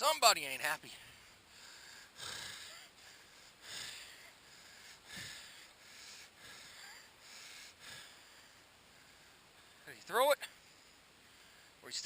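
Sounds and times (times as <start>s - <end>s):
man breathing heavily: 0.9s - 9.9s, 10.5s - 11.8s.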